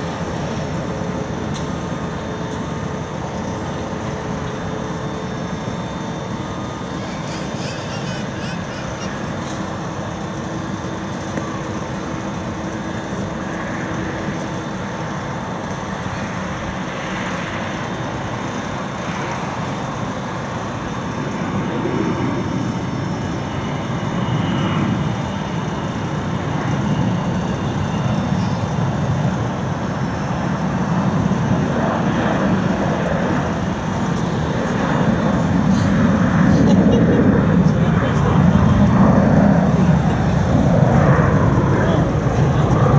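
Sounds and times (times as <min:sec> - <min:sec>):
jet engines taxiing: 0:00.0 - 0:42.9.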